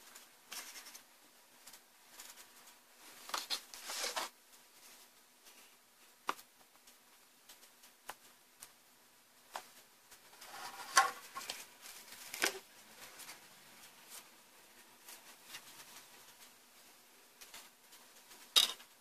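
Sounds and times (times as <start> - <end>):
plastic crackling and rustling: 0.0 - 8.8, 9.4 - 19.0.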